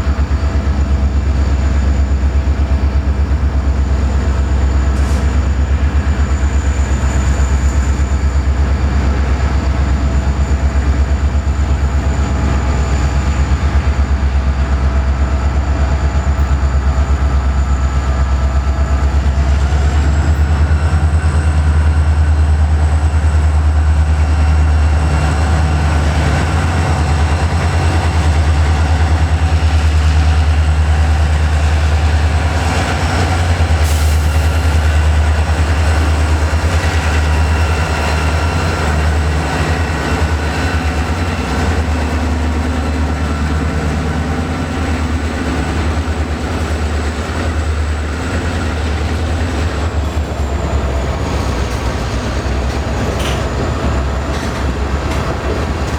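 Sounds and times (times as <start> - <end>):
freight train rumbling: 0.0 - 55.9.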